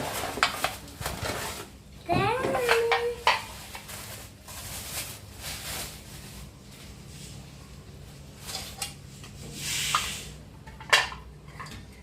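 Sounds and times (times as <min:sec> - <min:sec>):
rustling and handling noises: 0:00.0 - 0:11.0.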